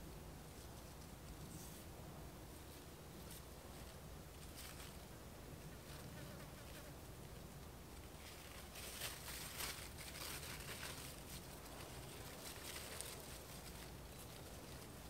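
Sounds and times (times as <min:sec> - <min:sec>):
leaves and stems rustling: 0:00.5 - 0:15.0.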